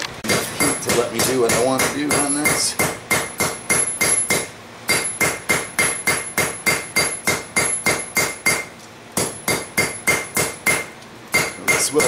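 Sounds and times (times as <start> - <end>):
hammer ringing on anvil: 0.3 - 12.0.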